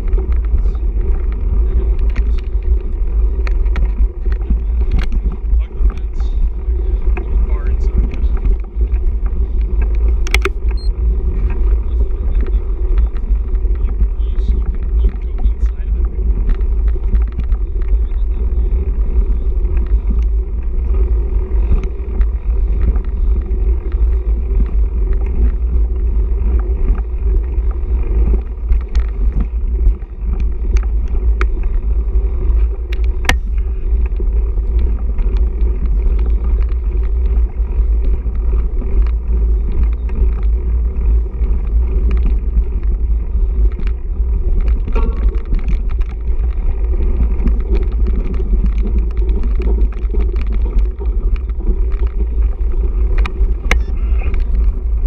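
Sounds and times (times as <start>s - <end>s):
bike clicks and rattles: 0.0s - 55.0s
wind and tyre rumble: 0.0s - 55.0s.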